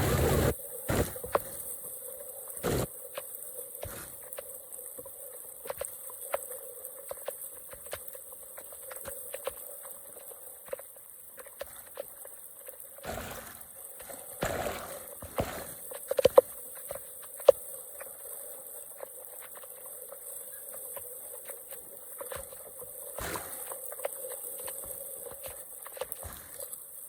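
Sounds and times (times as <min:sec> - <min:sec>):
water trickling and splashing: 0:00.0 - 0:27.0.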